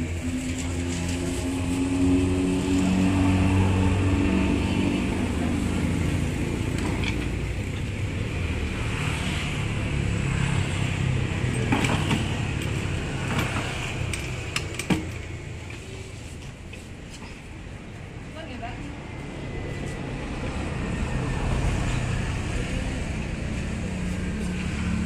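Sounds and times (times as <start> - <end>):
motorbikes passing: 0.0 - 16.7, 17.6 - 25.0.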